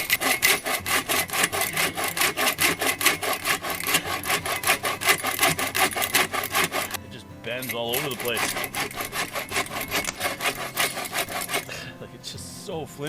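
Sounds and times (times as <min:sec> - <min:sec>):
hand saw cutting wood: 0:00.0 - 0:11.9.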